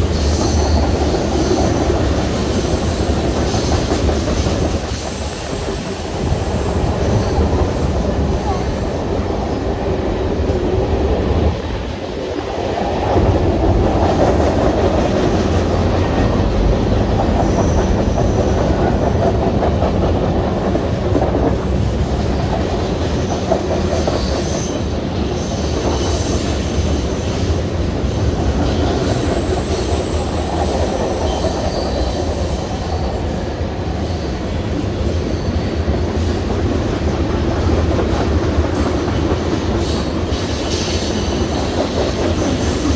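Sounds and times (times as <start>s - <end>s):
steel wheels rumbling on rail: 0.0s - 42.9s.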